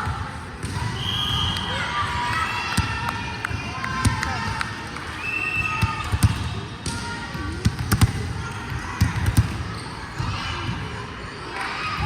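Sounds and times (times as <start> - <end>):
murmur of crowd voices: 0.0 - 12.0.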